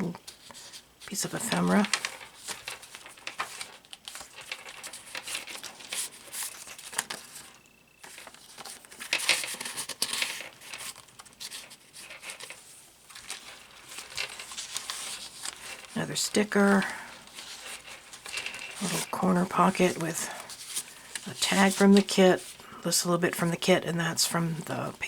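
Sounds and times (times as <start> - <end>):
paper pages rustling and crinkling: 0.0 - 25.0.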